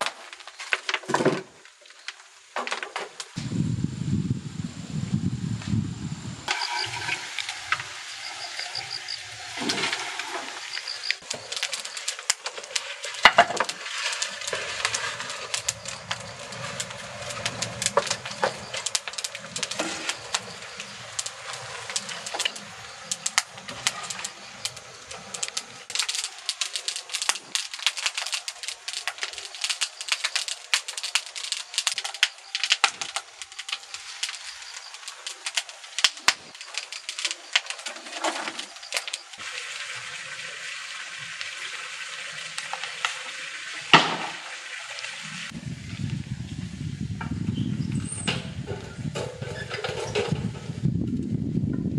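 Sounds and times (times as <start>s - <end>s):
firewood crackling and popping: 0.0s - 4.6s, 6.4s - 51.9s.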